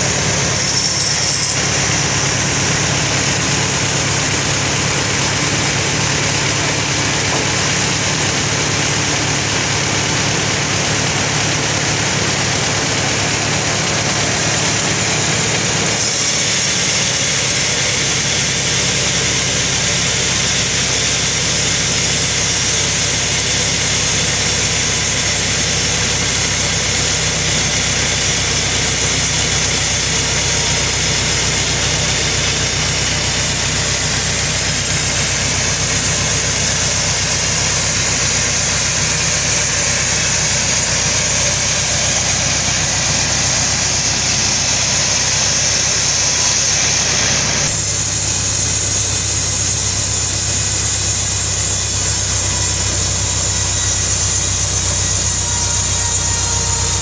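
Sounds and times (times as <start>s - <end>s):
band saw cutting through log: 0.0s - 57.0s.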